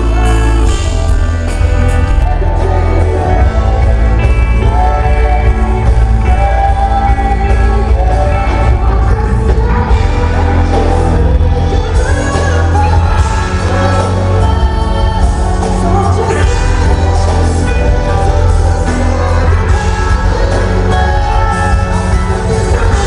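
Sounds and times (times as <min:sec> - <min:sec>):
live band playing pop ballad: 0:00.0 - 0:23.0
person singing: 0:00.0 - 0:23.0.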